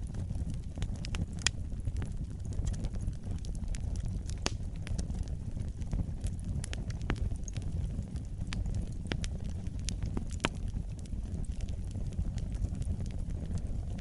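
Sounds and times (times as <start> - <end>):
fire crackling: 0.0 - 14.0
pops and snaps of fire: 0.0 - 14.0.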